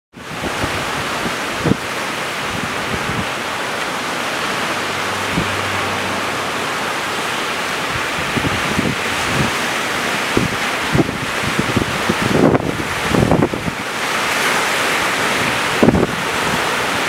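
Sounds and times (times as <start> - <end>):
strong wind: 0.1 - 17.0
surf breaking on shore: 0.1 - 17.0
wind buffeting microphone: 0.2 - 17.0.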